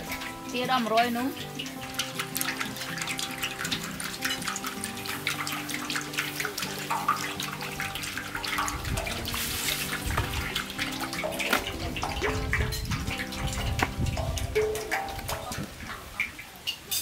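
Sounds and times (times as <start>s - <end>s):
oil pouring into a metal wok: 0.0s - 17.0s.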